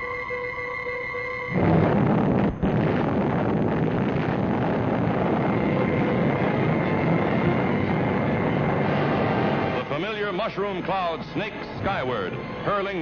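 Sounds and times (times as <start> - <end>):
explosion roar rumbling: 1.6 - 12.0.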